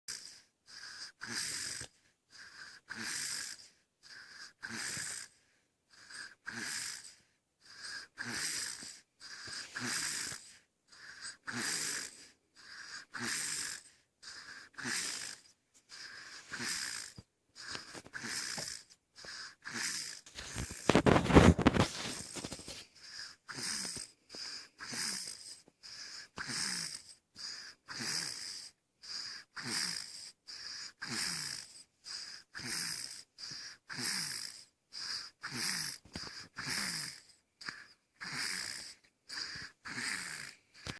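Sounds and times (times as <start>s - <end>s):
breathy hissing snoring: 0.1s - 40.9s.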